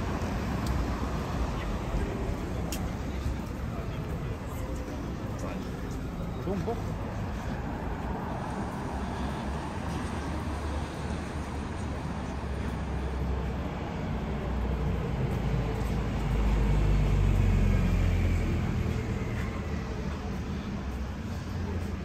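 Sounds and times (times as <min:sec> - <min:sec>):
bus passing by: 0:00.0 - 0:22.0
city street traffic: 0:00.0 - 0:22.0.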